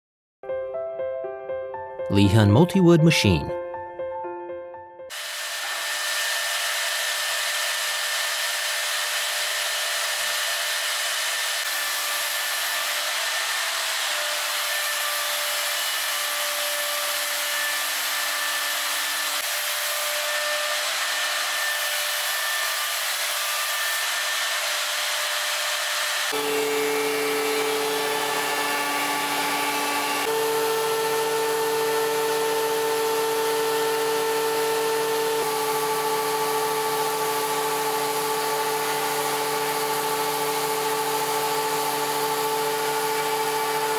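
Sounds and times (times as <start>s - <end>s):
router spindle whine: 5.1s - 43.9s.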